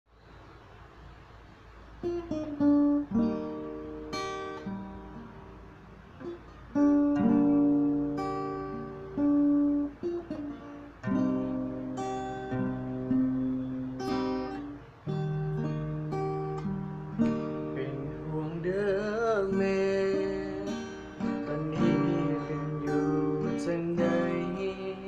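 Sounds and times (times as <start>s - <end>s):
acoustic guitar chords: 1.0s - 25.0s.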